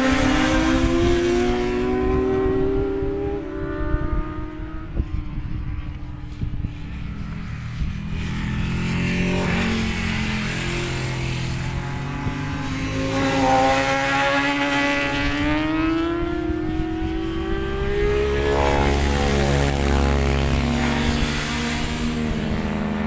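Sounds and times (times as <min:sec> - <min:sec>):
motorcycle engine accelerating: 0:00.0 - 0:23.0
racing motorcycle engines: 0:00.0 - 0:23.0.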